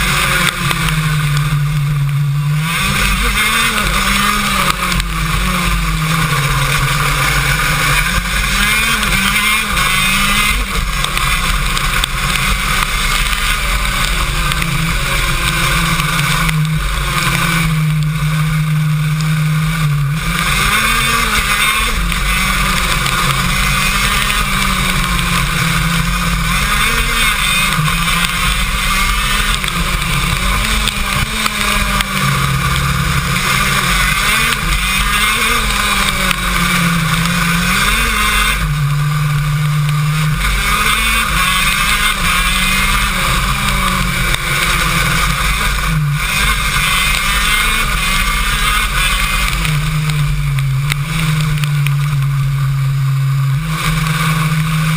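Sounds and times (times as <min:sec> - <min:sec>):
kart engine revving: 0:00.0 - 0:54.9.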